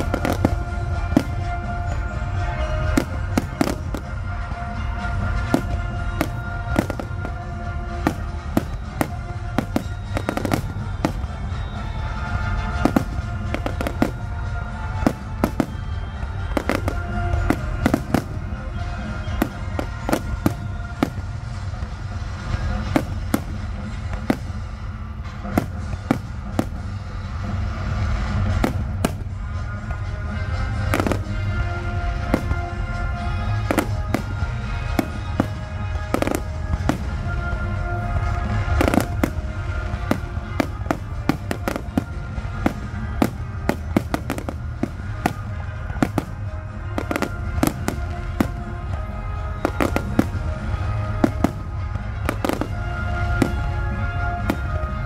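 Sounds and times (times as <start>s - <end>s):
fireworks bangs: 0.0s - 55.0s
music playing: 0.0s - 55.0s.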